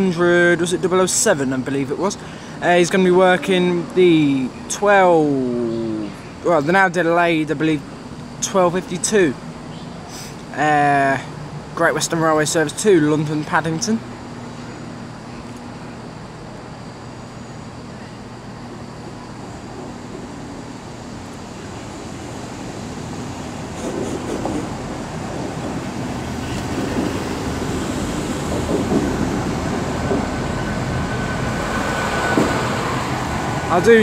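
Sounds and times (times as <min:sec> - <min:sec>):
diesel train approaching: 0:00.0 - 0:34.0
thin steady whine: 0:00.0 - 0:34.0.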